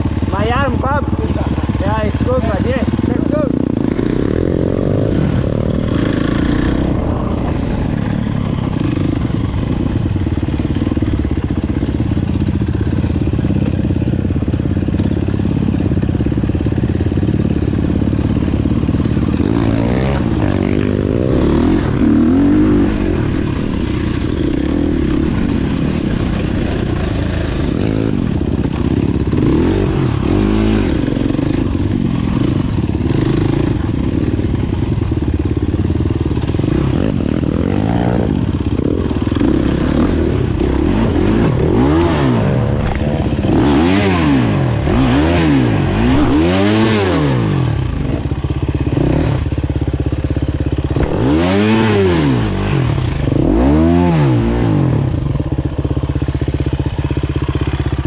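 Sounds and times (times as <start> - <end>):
dirt bike engine revving: 0.0 - 55.5.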